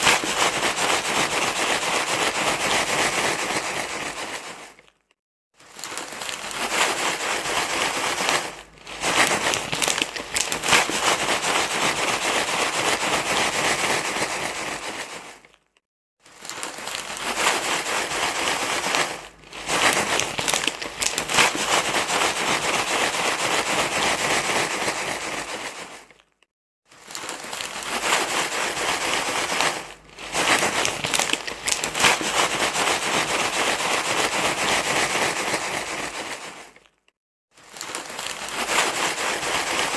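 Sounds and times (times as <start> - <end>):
crinkling rustle: 0.0 - 39.9.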